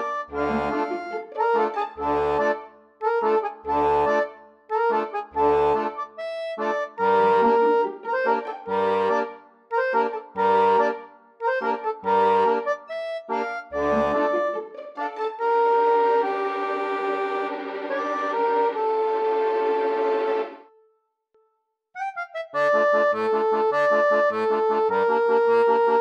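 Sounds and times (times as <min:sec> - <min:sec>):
accordion-like melody: 0:00.0 - 0:20.8, 0:22.0 - 0:26.0.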